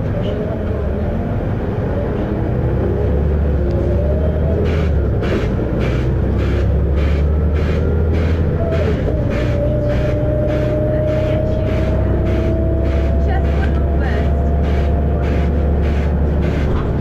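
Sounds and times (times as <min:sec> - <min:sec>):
bus diesel engine drone: 0:00.0 - 0:17.0.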